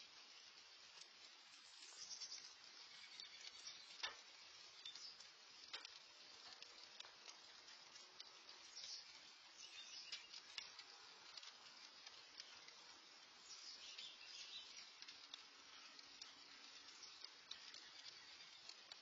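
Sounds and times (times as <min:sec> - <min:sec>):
light rain: 0:00.0 - 0:19.0
water drips ticking: 0:00.0 - 0:19.0.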